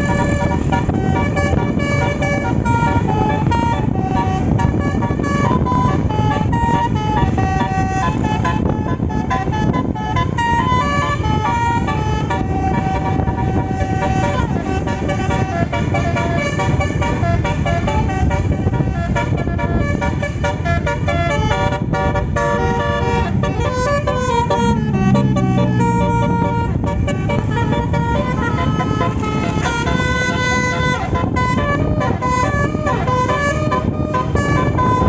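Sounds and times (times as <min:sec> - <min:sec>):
multi-tone bus horn tune: 0:00.0 - 0:35.0.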